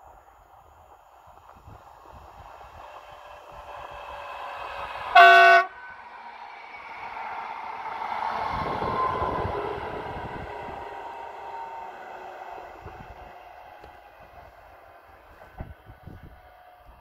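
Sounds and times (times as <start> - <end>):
train motor whine: 0.6 - 17.0.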